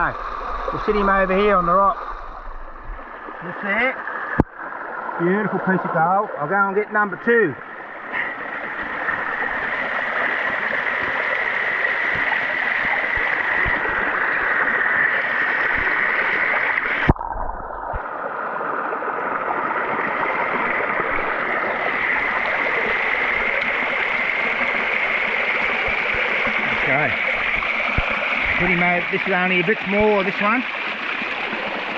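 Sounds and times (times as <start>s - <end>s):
water rushing over waterfall: 5.2s - 31.9s.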